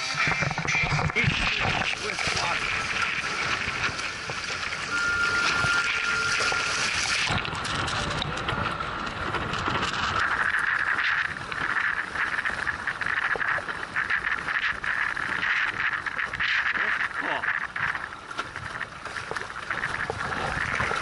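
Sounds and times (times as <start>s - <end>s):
water slapping against hull: 0.0s - 21.0s
wind on microphone: 0.0s - 21.0s.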